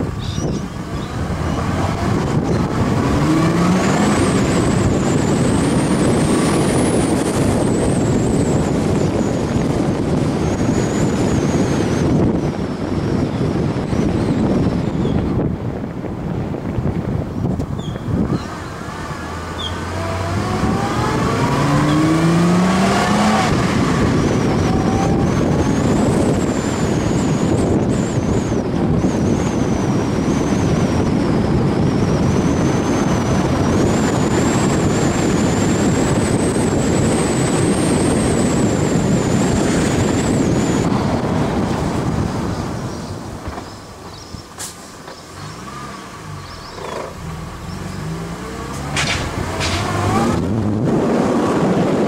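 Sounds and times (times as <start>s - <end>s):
car engine accelerating: 0.0s - 52.0s
wind and road noise: 0.0s - 52.0s.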